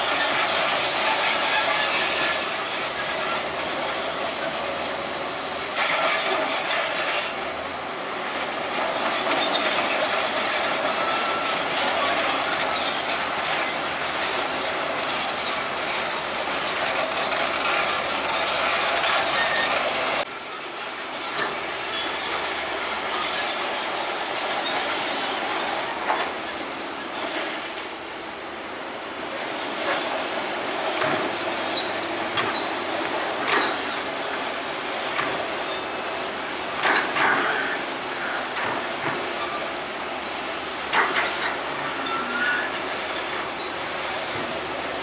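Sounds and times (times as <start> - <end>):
bulldozer engine running: 0.0 - 45.0
bulldozer tracks squealing and clanking: 0.0 - 45.0.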